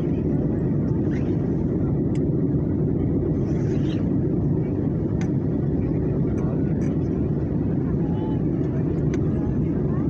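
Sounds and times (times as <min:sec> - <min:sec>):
airliner cabin rumble: 0:00.0 - 0:10.0
faint voices: 0:00.0 - 0:10.0.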